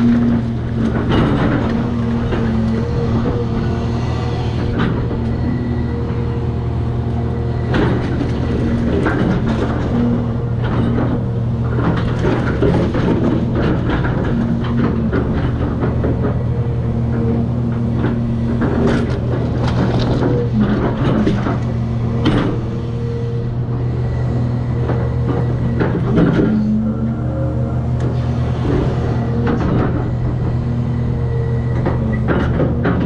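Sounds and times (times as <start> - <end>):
engine whine: 0.0 - 33.0
excavator diesel engine: 0.0 - 33.0.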